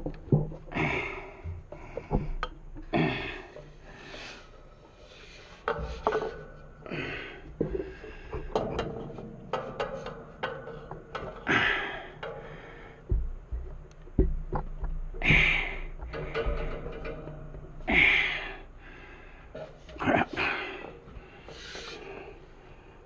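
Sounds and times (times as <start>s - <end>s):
tools tapping on metal fittings: 1.4s - 23.0s.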